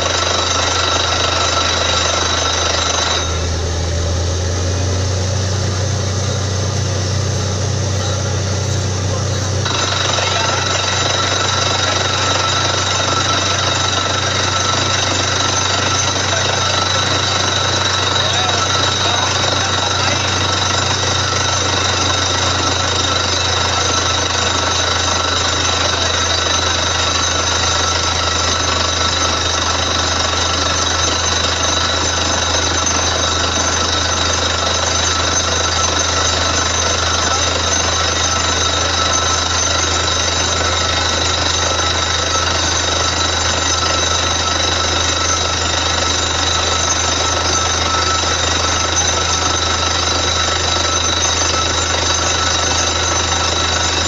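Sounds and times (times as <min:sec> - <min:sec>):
deep drone: 0:00.0 - 0:54.0
drilling rig hammering and grinding: 0:00.0 - 0:54.0
high whines: 0:00.0 - 0:54.0.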